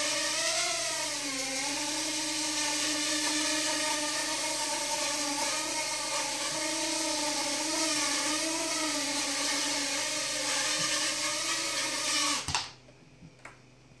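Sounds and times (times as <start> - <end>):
drone motors whining: 0.0 - 12.5.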